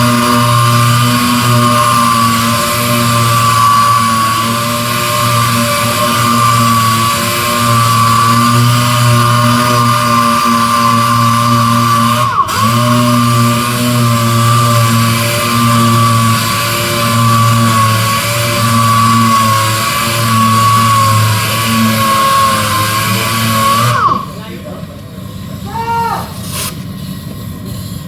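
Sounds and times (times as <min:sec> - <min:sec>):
power sander whining: 0:00.0 - 0:27.7.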